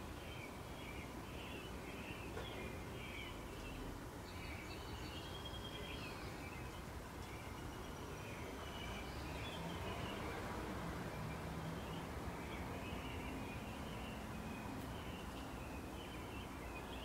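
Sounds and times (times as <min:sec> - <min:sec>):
low outdoor background hum: 0:00.0 - 0:17.0
songbirds chirping and twittering: 0:00.0 - 0:17.0.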